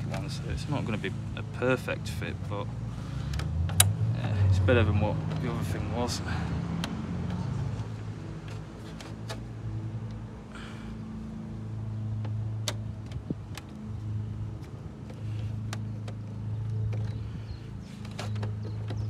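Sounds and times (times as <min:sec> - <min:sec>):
low engine-like hum: 0:00.0 - 0:19.0.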